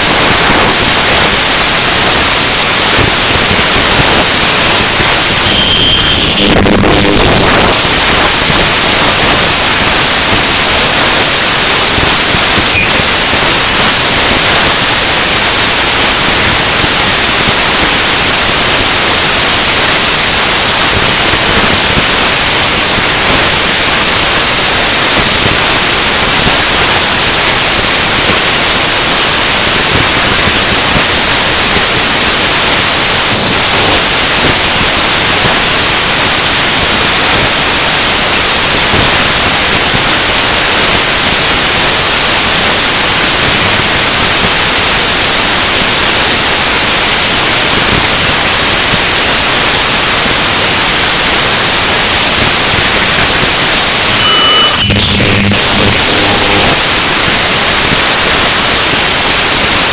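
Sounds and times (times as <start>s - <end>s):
harsh hissing static noise: 0.0s - 59.9s.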